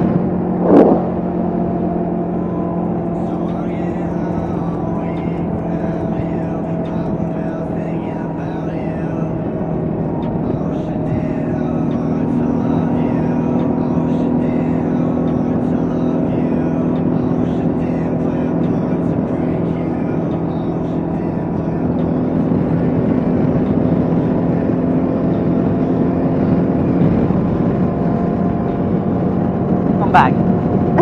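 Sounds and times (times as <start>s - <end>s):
motorcycle engine cruising: 0.0s - 31.0s
wind and road noise: 0.0s - 31.0s.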